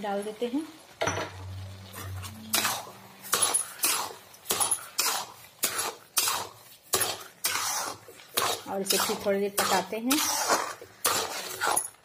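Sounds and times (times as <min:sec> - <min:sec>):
spoon scraping metal pan: 0:01.8 - 0:12.0.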